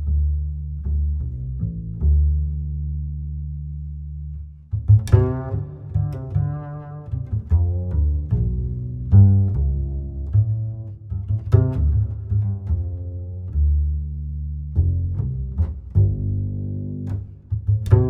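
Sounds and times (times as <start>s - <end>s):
plucked bass line: 0.0s - 18.0s.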